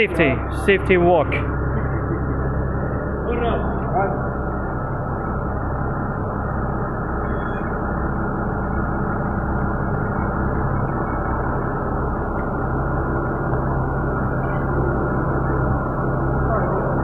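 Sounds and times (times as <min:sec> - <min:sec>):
forklift engine idling: 0:00.0 - 0:17.0.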